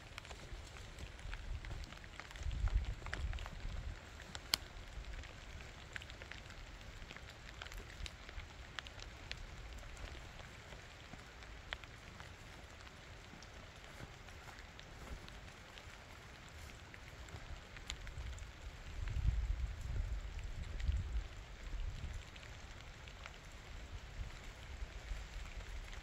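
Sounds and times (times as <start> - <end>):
rain falling: 0.0 - 26.0
raindrops tapping: 0.0 - 26.0.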